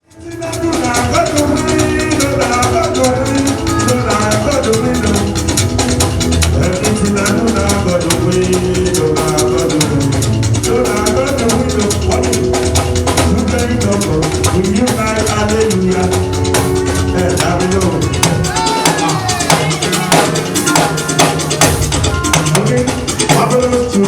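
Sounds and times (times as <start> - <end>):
drum kit and shakers beat: 0.0 - 24.0
held melodic lines: 0.1 - 24.0.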